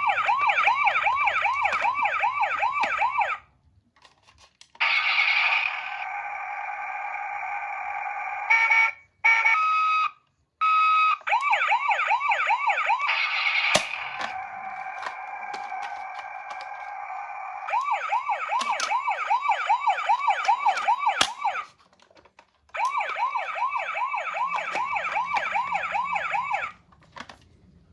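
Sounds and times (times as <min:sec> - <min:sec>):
toy electronic sirens: 0:00.0 - 0:03.4, 0:04.8 - 0:21.8, 0:22.8 - 0:26.8.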